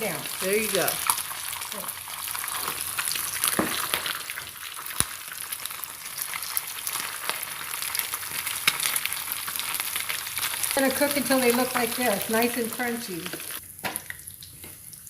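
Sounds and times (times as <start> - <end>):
food frying in hot oil: 0.0 - 15.0.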